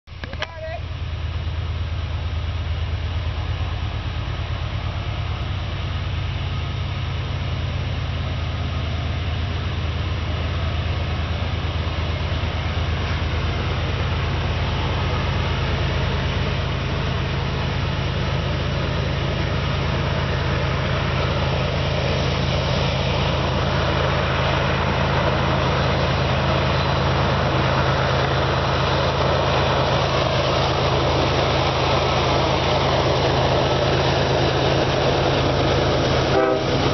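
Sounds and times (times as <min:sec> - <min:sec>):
diesel locomotive engine drone: 0:00.0 - 0:36.9.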